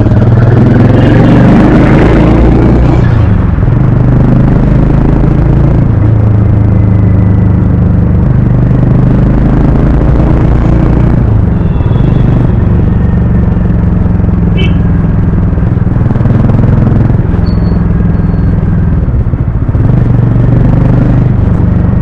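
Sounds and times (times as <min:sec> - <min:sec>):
motorcycle engine and exhaust: 0:00.0 - 0:22.0.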